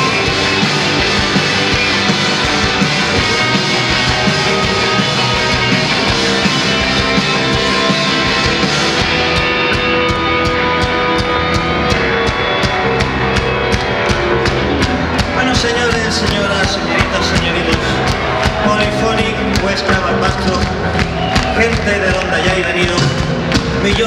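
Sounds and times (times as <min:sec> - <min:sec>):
live rock band playing: 0:00.0 - 0:24.0
steady drum beat: 0:00.0 - 0:24.0.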